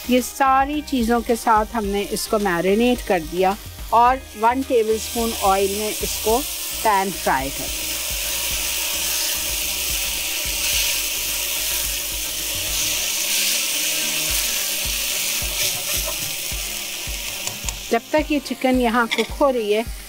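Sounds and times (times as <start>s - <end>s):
background music with low beat: 0.0s - 20.0s
chicken sizzling in frying pan: 0.0s - 20.0s.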